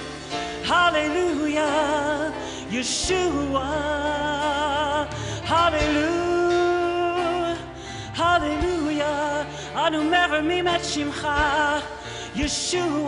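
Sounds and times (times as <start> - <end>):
person singing with vibrato: 0.0 - 13.0
worship band playing: 0.0 - 13.0.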